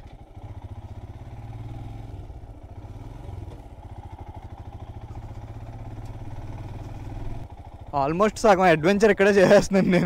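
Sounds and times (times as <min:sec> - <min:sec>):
motorcycle engine pulsing exhaust: 0:00.0 - 0:10.0.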